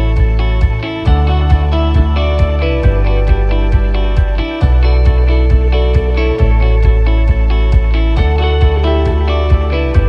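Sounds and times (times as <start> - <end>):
guitar over steady beat: 0.0 - 10.0.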